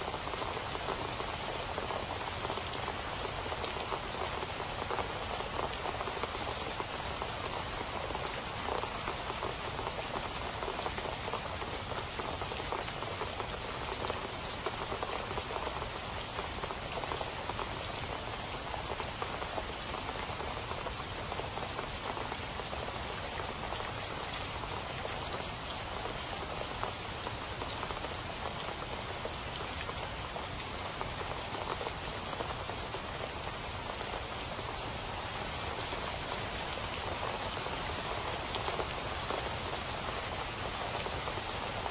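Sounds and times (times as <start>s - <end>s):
heavy rain splashing into water: 0.0s - 41.9s.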